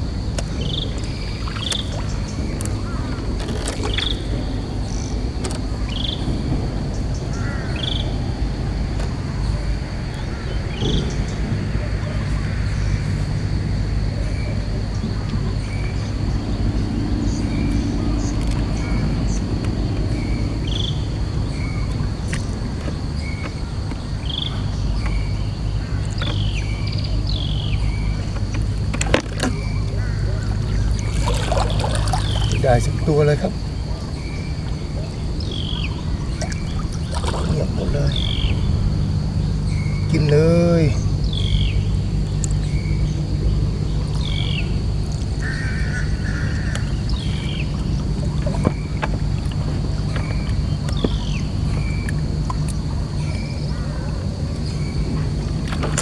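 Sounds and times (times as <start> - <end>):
boat engine running: 0.0 - 56.0
high insect drone: 0.0 - 56.0.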